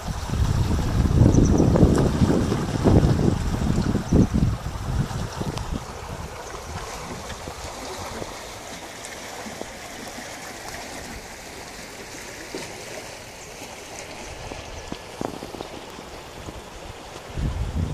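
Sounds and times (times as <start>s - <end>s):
stream flowing over rocks: 0.0s - 17.9s.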